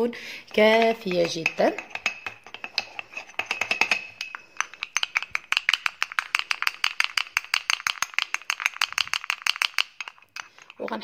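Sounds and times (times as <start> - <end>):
wooden spoon clicking against glass jar: 0.7 - 11.0.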